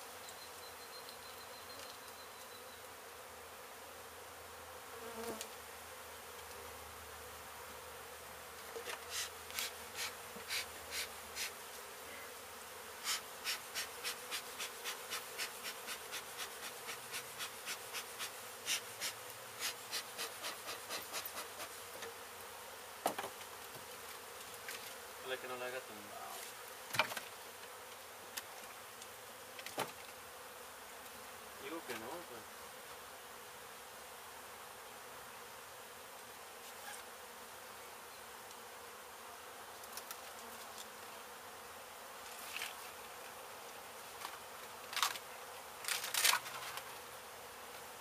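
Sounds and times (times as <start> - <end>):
honey bees buzzing: 0.0 - 48.0.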